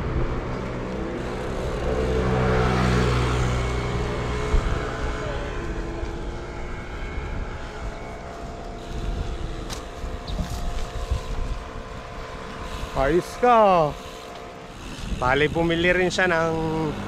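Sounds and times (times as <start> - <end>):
road and wind noise: 0.0 - 17.0
vehicle engine passing: 0.0 - 17.0.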